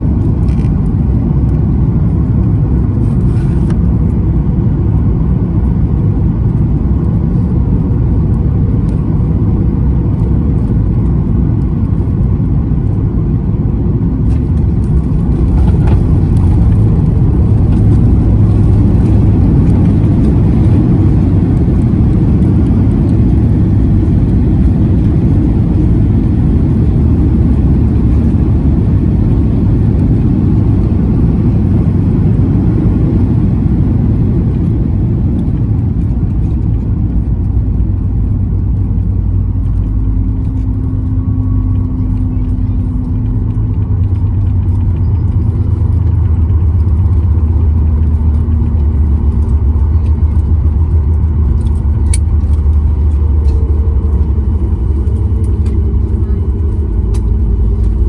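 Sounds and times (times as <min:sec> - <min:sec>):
airliner landing rumble: 0:00.0 - 0:58.0.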